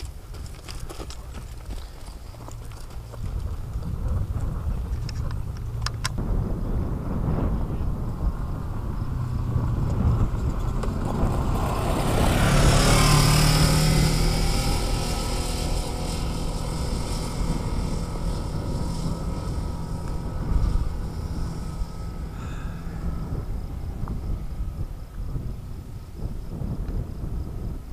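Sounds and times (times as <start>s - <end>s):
tyres on gravel road: 0.0s - 27.9s
utility vehicle engine running: 0.0s - 27.9s.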